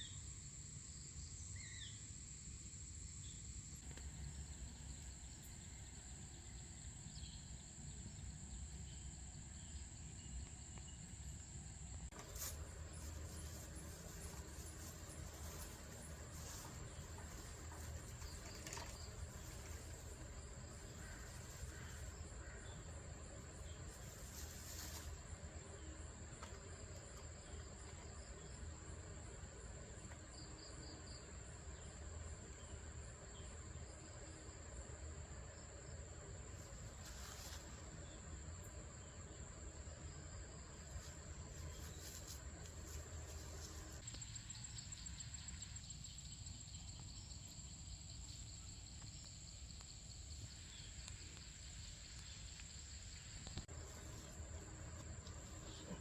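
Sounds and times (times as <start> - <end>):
faint low hum: 0.0 - 56.0
insects chirping: 0.0 - 56.0.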